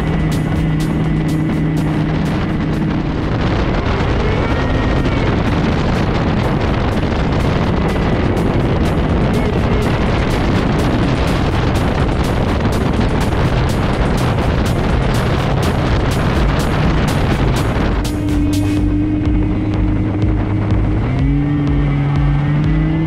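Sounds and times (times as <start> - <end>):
jet boat engine running hard: 0.0 - 23.0
wind noise on microphone: 0.0 - 23.0.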